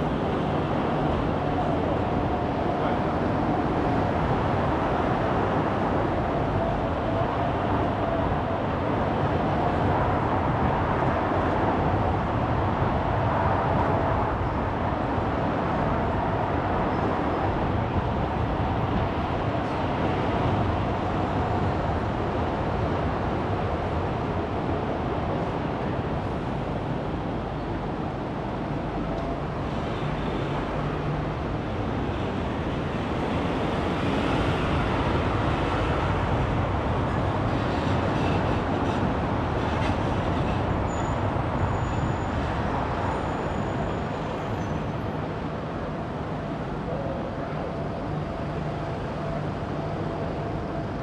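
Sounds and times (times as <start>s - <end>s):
car engine and tyre rumble: 0.0s - 51.0s.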